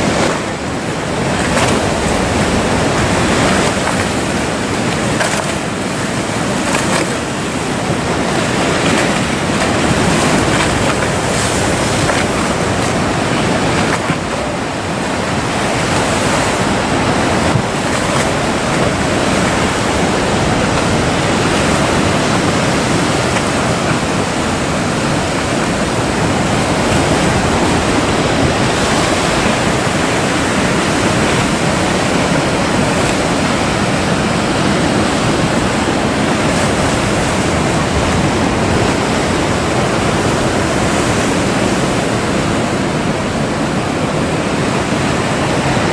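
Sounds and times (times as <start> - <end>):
waves breaking: 0.0 - 45.9
wind on microphone: 0.0 - 45.9.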